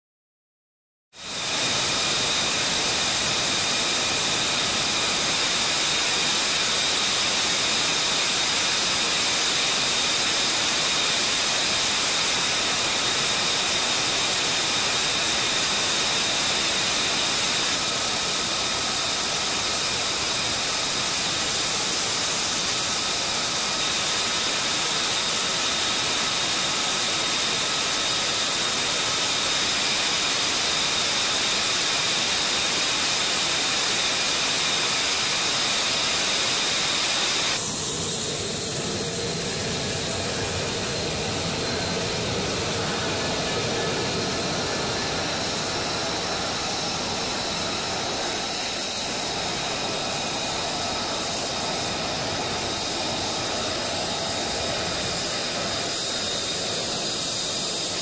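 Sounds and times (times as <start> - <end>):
jet engines roaring and whining: 1.2 - 58.0.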